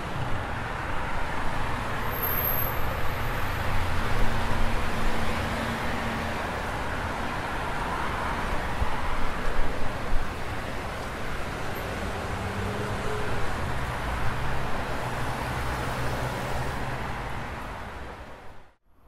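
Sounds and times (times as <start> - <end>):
city traffic: 0.0 - 19.0.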